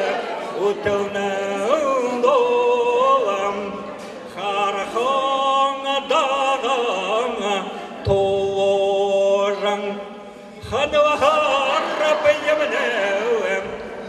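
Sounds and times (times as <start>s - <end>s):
elderly man singing unaccompanied: 0.0s - 14.0s.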